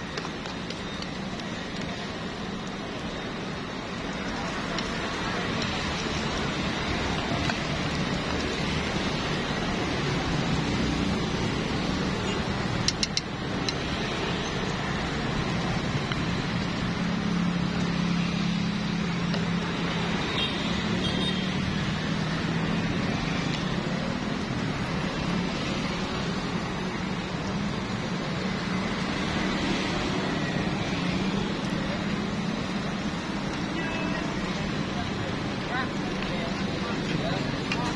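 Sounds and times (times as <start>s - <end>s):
batter sizzling in hot oil: 0.0s - 36.5s
road traffic noise: 0.0s - 37.9s.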